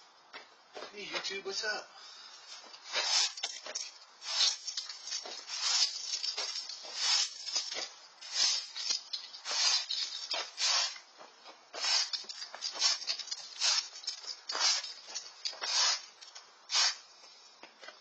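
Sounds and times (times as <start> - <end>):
broom sweeping concrete: 2.4 - 17.3.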